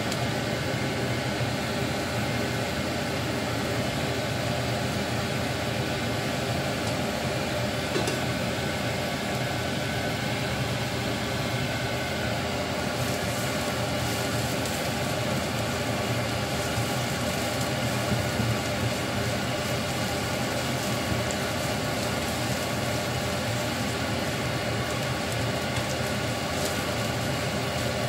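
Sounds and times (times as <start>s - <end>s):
fan whirring with low hum: 0.0s - 28.0s.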